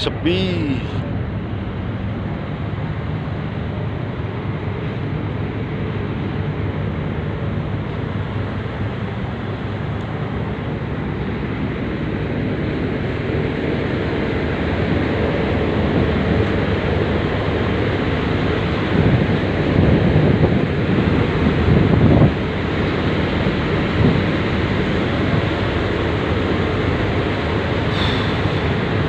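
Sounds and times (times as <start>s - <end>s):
ferry engines droning: 0.0s - 29.0s
wind and sea water rushing: 0.0s - 29.0s.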